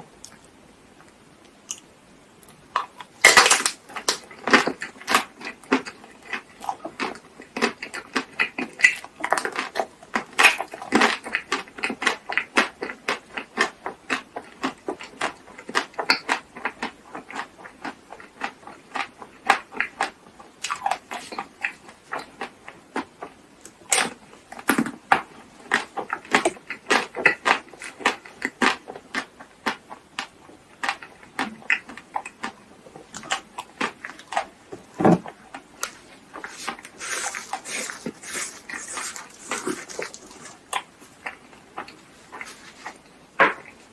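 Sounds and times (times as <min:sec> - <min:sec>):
chewing with wet mouth clicks: 0:01.7 - 0:34.6, 0:35.4 - 0:43.0.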